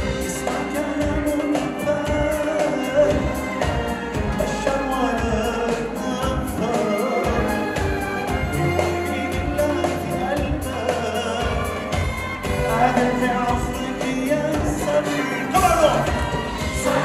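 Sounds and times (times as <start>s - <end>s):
drums keeping a steady beat: 0.0s - 17.0s
live band playing: 0.0s - 17.0s
man singing: 0.0s - 17.0s.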